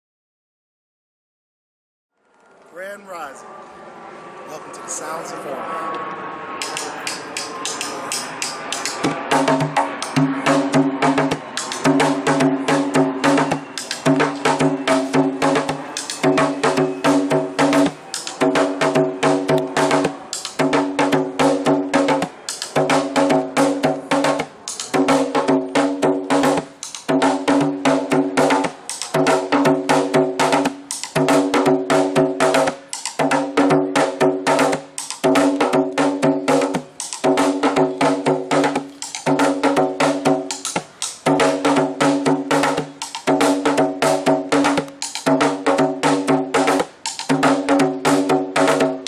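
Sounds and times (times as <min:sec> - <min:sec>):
rapid drumming: 0:06.6 - 0:49.0.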